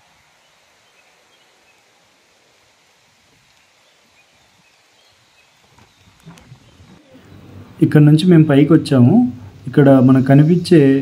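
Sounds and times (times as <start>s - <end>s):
low even hiss: 0.0s - 11.0s.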